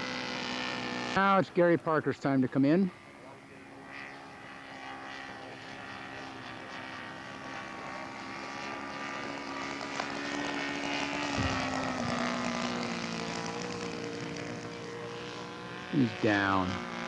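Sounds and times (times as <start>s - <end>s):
model airplane engine and propeller: 0.0s - 17.0s.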